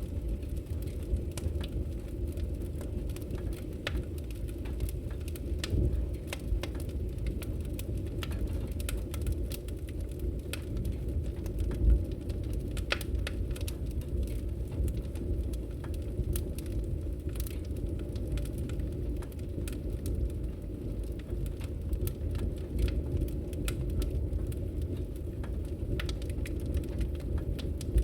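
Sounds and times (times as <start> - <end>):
fire crackles and pops: 0.0 - 28.0
fire rumbling in fireplace: 0.0 - 28.0.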